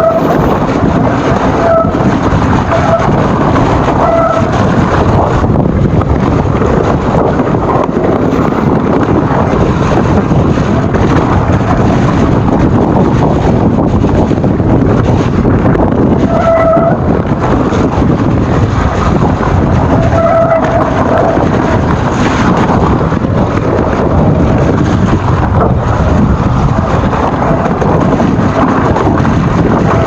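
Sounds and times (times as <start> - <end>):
bike rattling: 0.0 - 30.0
mountain bike riding noise: 0.0 - 30.0
wind buffeting microphone: 0.0 - 30.0.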